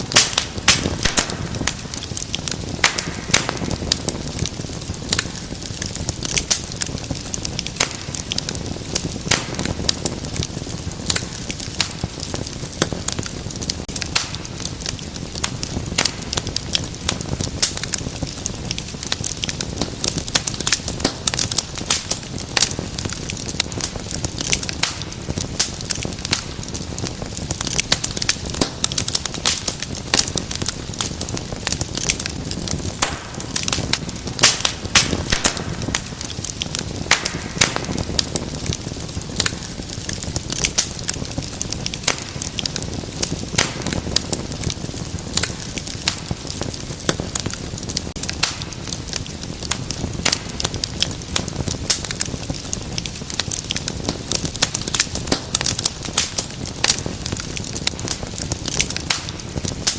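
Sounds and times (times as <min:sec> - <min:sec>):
fire rushing: 0:00.0 - 0:59.9
wood fire crackling and popping: 0:00.0 - 0:59.9.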